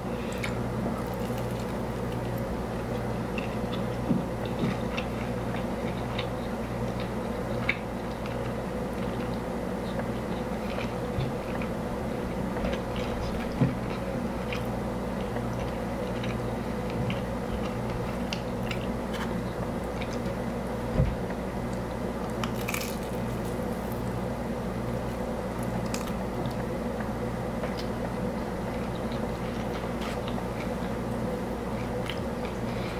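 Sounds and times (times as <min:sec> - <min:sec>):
steady low hum: 0:00.0 - 0:32.9
person chewing crunchy food: 0:00.1 - 0:20.5, 0:21.2 - 0:24.3, 0:25.0 - 0:32.9.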